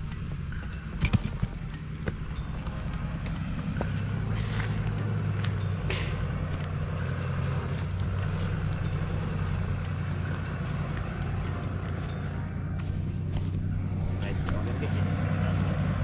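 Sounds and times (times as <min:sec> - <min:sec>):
truck engine running at low revs: 0:00.0 - 0:16.0.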